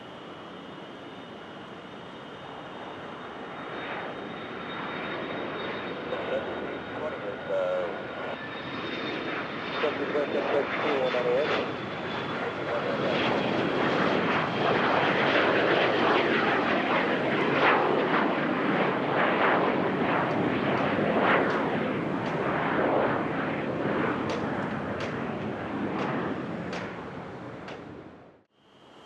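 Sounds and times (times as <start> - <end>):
aircraft engines passing: 0.0 - 29.0.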